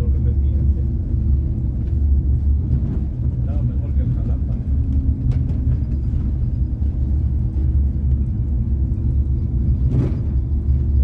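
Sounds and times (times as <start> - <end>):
diesel engine drone: 0.0 - 11.0
road rumble: 0.0 - 11.0.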